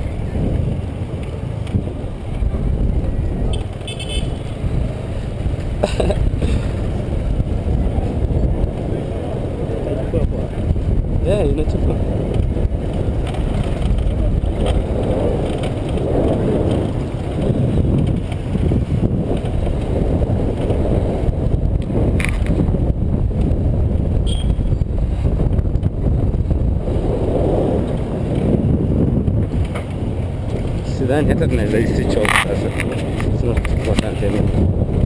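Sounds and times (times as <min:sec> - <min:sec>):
motorcycle engine: 0:00.0 - 0:33.7
wind rushing: 0:00.0 - 0:35.0.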